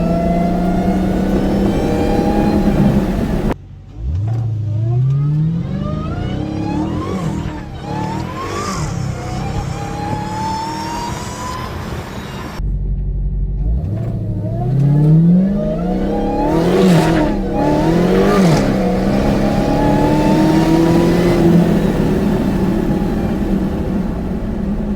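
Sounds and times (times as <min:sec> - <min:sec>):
car engine accelerating hard: 0:00.0 - 0:12.7, 0:13.4 - 0:24.9
supercharger whine: 0:00.0 - 0:24.9.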